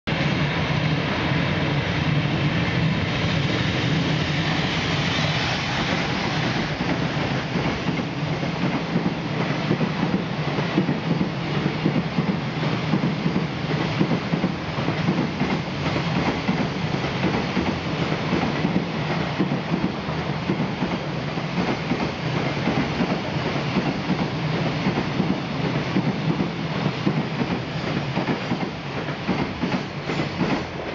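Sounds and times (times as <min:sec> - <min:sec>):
freight train rumbling past: 0:00.1 - 0:30.9.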